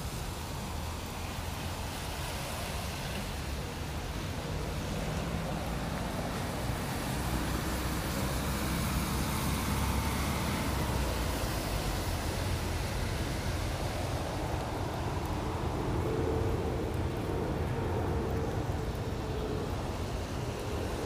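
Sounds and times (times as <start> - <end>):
rain hissing on wet street: 0.0 - 21.0.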